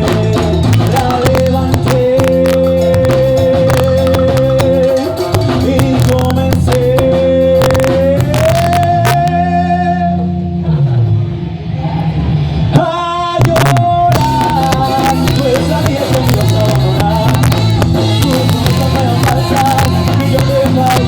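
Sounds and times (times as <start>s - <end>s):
ska band playing: 0.0s - 10.7s, 12.3s - 21.0s.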